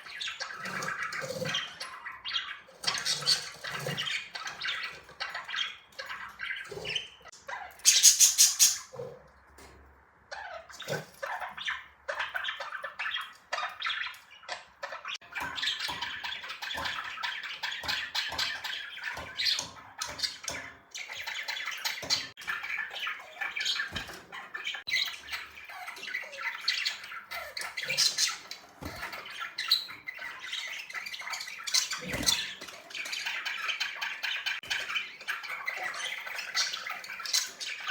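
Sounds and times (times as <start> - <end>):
budgerigars chattering: 0.0 - 9.3, 10.4 - 37.9.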